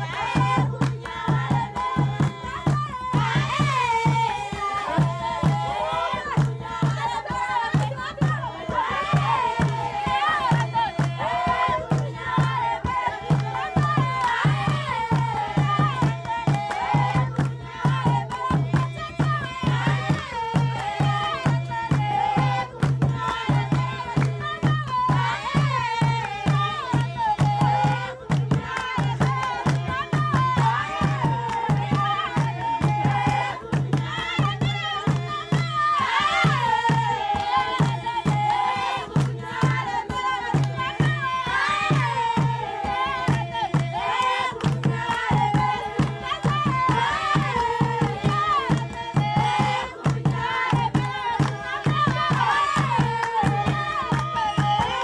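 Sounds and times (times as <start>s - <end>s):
group of voices singing: 0.0s - 55.0s
steady drum beat: 0.0s - 55.0s.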